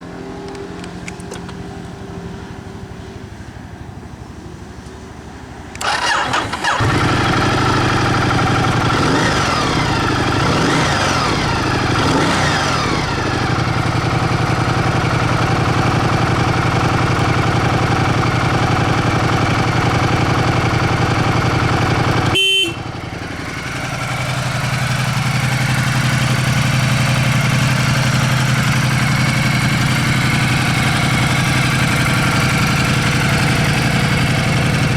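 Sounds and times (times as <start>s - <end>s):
motorcycle engine starting and idling: 0.3s - 1.8s, 5.6s - 34.9s.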